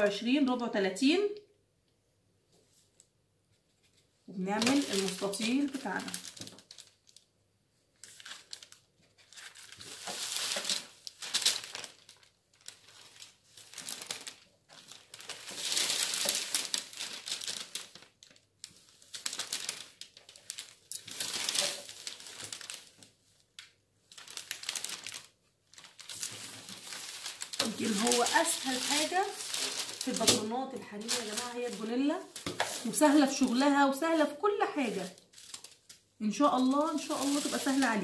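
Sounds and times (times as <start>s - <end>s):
paper rustling and crinkling: 2.7s - 7.3s, 7.9s - 38.0s.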